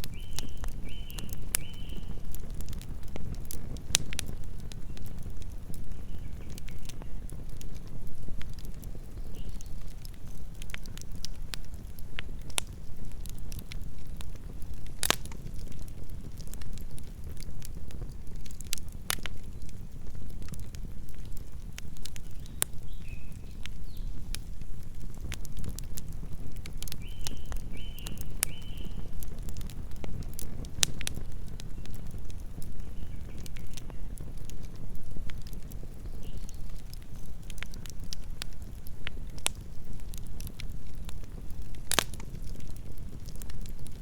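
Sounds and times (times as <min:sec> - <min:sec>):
campfire flames rumbling: 0:00.0 - 0:44.0
wood crackling and popping: 0:00.0 - 0:44.0.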